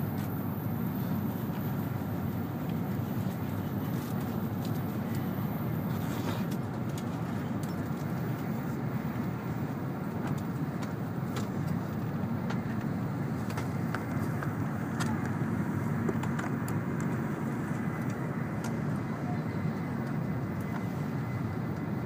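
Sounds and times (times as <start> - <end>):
train running noise from inside: 0.0 - 22.0.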